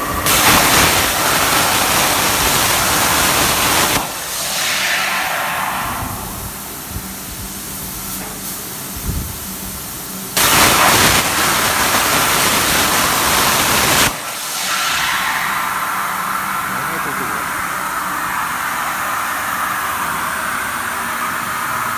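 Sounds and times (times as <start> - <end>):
loud plasma torch hiss: 0.0 - 20.1
plasma cutter hiss and hum: 0.0 - 21.9.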